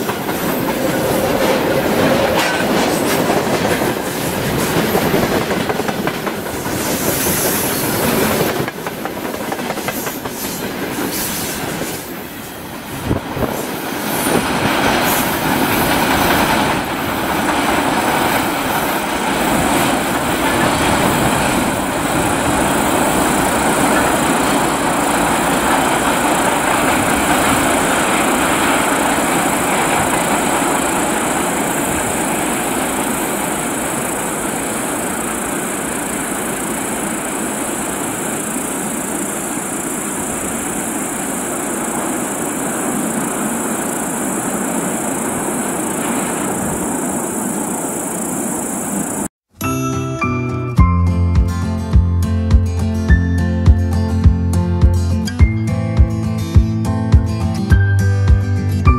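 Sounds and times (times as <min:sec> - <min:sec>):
freight train wheels rumbling on track: 0:00.0 - 0:49.3.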